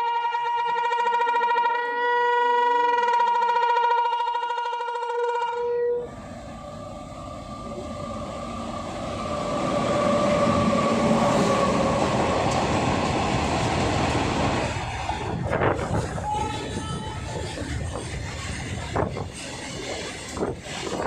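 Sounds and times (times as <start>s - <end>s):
train wheels rumbling on rail: 3.0s - 21.0s.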